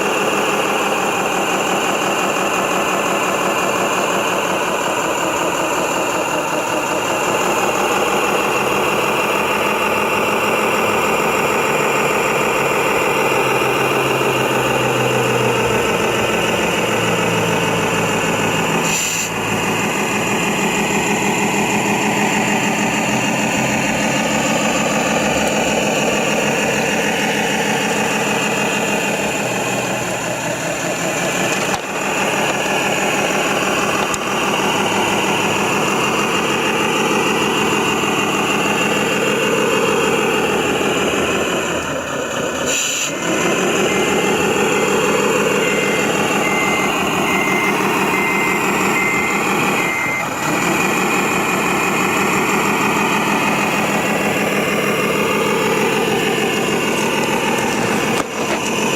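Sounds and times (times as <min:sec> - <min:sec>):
radio-controlled truck engines running: 0:00.0 - 0:58.9.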